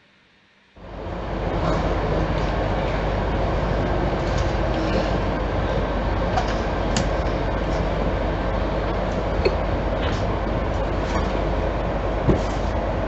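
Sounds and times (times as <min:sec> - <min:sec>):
electric train rumbling: 0:00.8 - 0:13.0.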